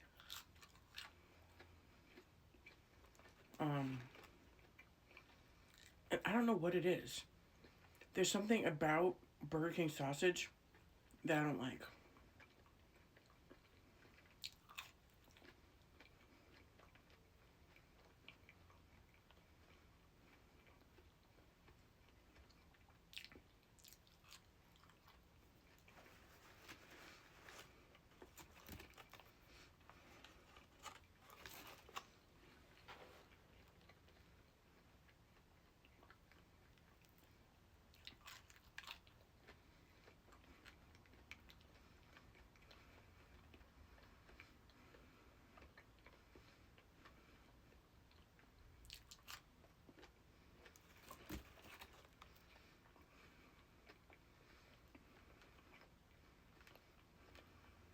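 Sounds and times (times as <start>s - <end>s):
quiet chewing: 0.0s - 6.1s, 7.2s - 8.2s, 10.5s - 11.2s, 11.9s - 57.9s.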